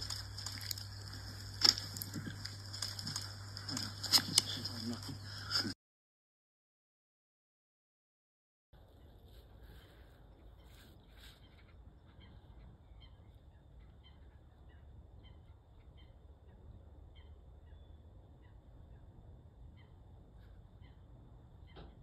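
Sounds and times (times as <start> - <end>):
low steady rumble: 0.0 - 5.7, 8.8 - 22.0.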